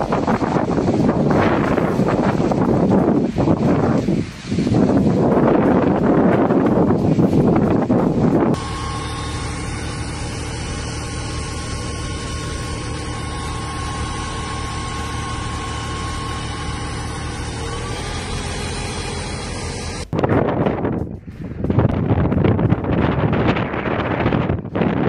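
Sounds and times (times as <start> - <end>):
wind buffeting microphone: 0.0 - 18.0, 19.6 - 25.0
machine hum: 0.0 - 25.0.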